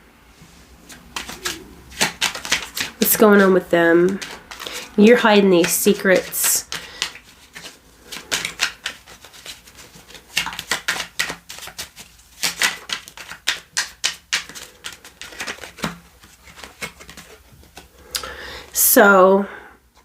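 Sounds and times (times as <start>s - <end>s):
cards being shuffled: 0.8s - 18.3s.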